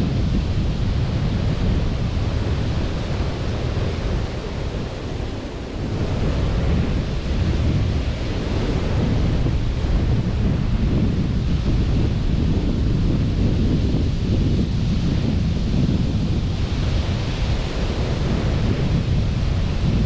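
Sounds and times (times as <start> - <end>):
sea surf washing onto beach: 0.0 - 20.0
wind buffeting microphone: 0.0 - 20.0.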